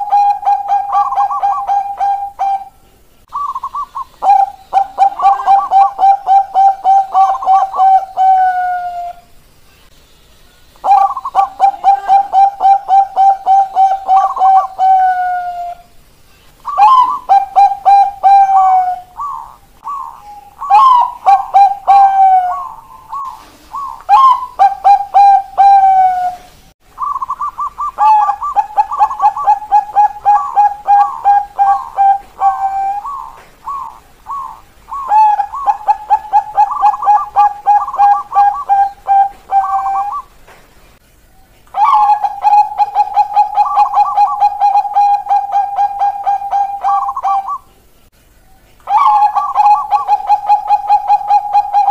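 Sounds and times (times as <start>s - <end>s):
doves cooing: 0.0s - 9.3s, 10.8s - 16.0s, 16.6s - 40.6s, 41.3s - 47.8s, 48.6s - 51.9s.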